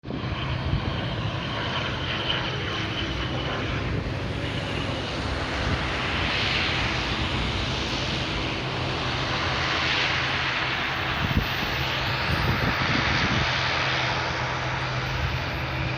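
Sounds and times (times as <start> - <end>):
high engine whine: 0.0 - 15.9
jet engines running: 0.0 - 15.9.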